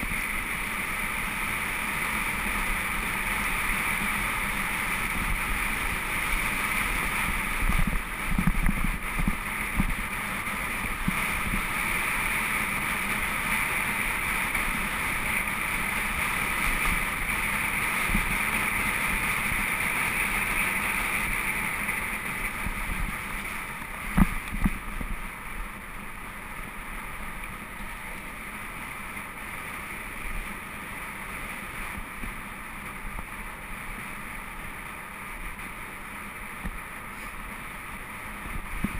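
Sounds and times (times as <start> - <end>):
bike tyres rumbling on gravel: 0.0 - 38.9
wind rush on microphone: 0.0 - 38.9.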